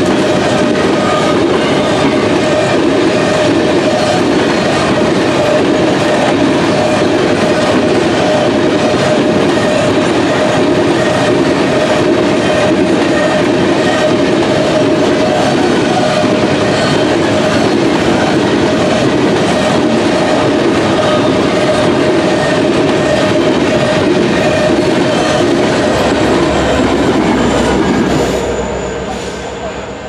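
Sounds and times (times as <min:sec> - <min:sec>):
diesel locomotive rumble: 0:00.0 - 0:30.0
freight train wheels on rails: 0:00.0 - 0:30.0
ringing wheel squeal: 0:00.0 - 0:30.0.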